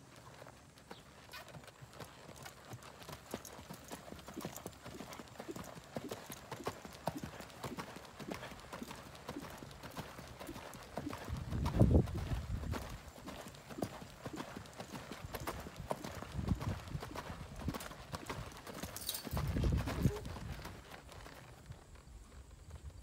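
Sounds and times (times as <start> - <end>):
hoofbeats trotting on soft dirt: 0.0 - 23.0.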